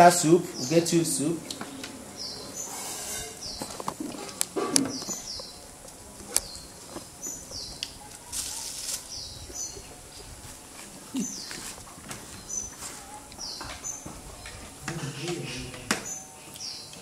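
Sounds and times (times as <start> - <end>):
low outdoor background: 0.0 - 17.0
bird chirping: 0.4 - 5.7, 6.4 - 10.3, 11.1 - 17.0.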